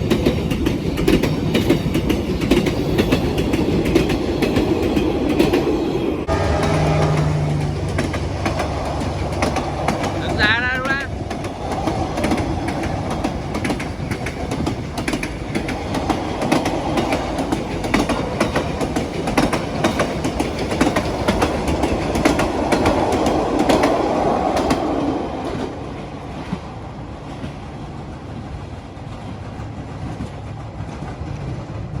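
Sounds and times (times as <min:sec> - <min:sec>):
train wheels clacking over rail joints: 0:00.0 - 0:26.6
train rumble: 0:00.0 - 0:32.0.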